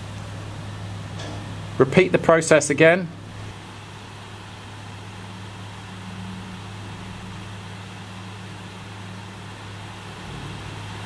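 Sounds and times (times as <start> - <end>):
constant hiss: 0.0 - 11.0
steady low hum: 0.0 - 11.0.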